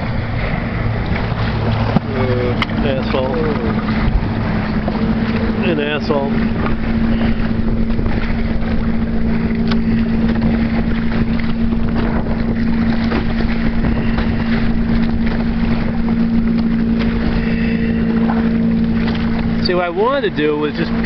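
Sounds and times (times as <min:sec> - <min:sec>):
steady low hum: 0:00.0 - 0:21.0
water splashing past hull: 0:00.0 - 0:21.0
wind buffeting microphone: 0:00.0 - 0:21.0.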